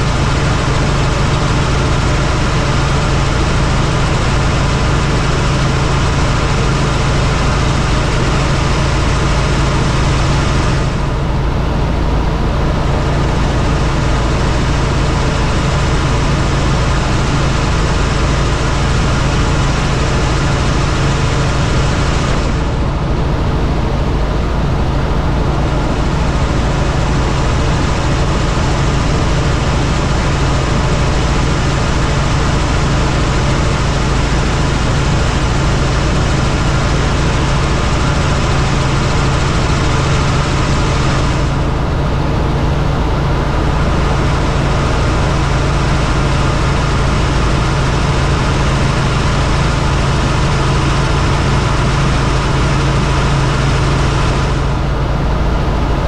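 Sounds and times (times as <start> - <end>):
helicopter engine and rotor noise: 0.0 - 56.0.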